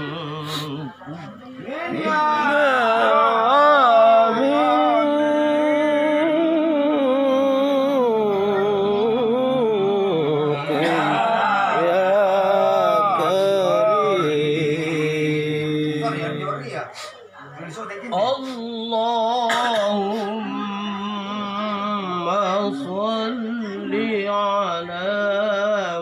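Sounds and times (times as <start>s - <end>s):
man chanting melodically: 0.0s - 16.9s, 18.2s - 26.0s.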